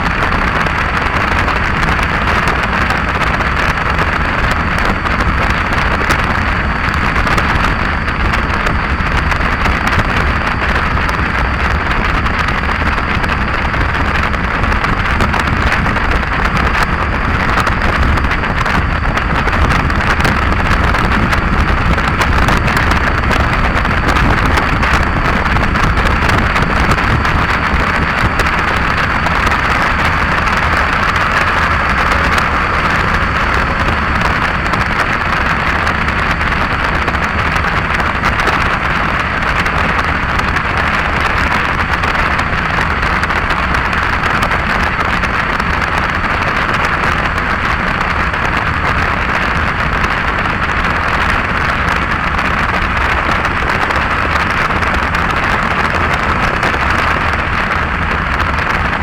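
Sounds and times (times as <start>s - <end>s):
road and vehicle rumble: 0.0s - 59.0s
wind noise on microphone: 0.0s - 59.0s.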